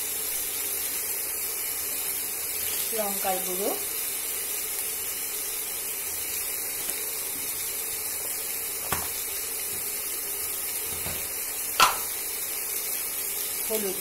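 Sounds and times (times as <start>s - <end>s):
spices sizzling in hot oil: 0.0s - 14.0s.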